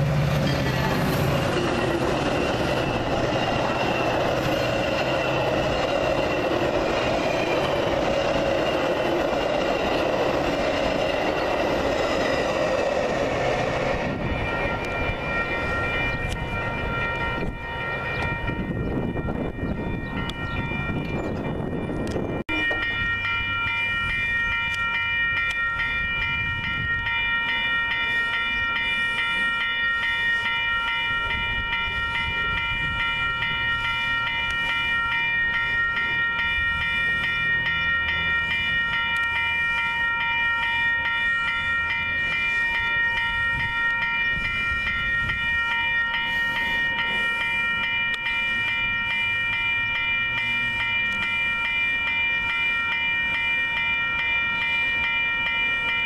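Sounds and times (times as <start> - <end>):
railroad crossing bells ringing: 0.0 - 56.0.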